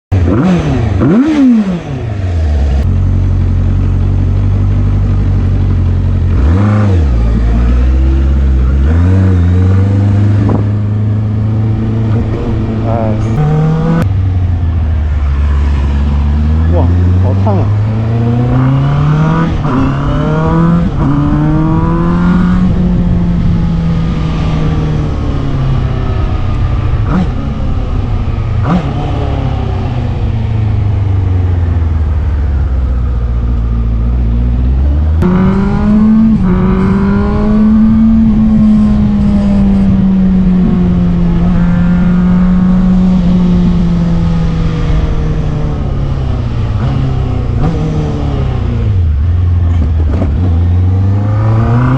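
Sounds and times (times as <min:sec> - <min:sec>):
motorcycle engine under way: 0:00.1 - 0:51.9.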